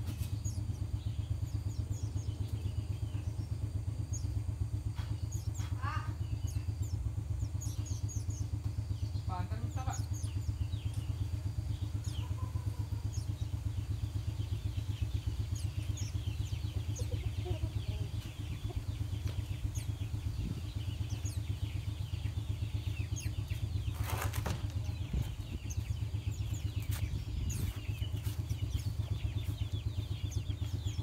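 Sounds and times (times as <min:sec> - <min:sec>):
pulsing motor hum: 0:00.0 - 0:31.0
small birds chirping: 0:00.0 - 0:31.0.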